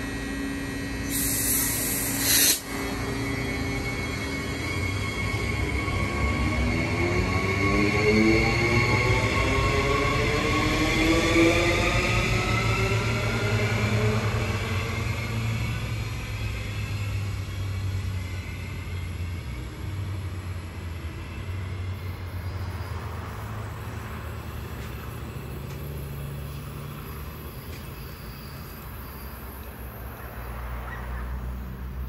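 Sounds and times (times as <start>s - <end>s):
large vehicle humming: 0.0s - 32.0s.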